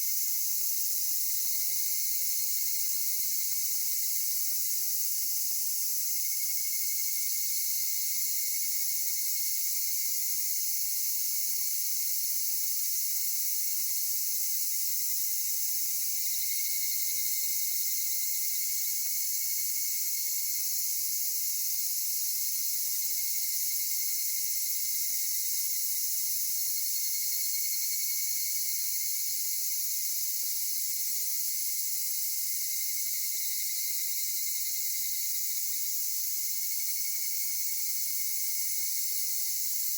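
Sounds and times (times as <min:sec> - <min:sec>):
insect chorus high shrill: 0:00.0 - 0:39.9.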